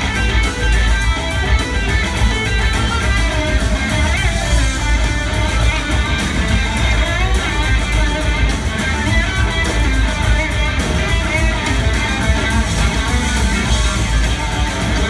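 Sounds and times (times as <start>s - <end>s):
bass guitar: 0.0s - 15.0s
cymbals ticking: 0.0s - 15.0s
drums: 0.0s - 15.0s
electric guitar bending: 0.0s - 15.0s.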